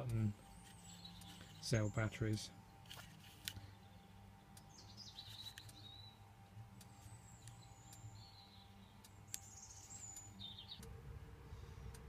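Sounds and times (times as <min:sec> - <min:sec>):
bird chirps gliding down: 0:00.0 - 0:02.8, 0:03.6 - 0:11.0
refrigeration units humming: 0:00.0 - 0:12.0.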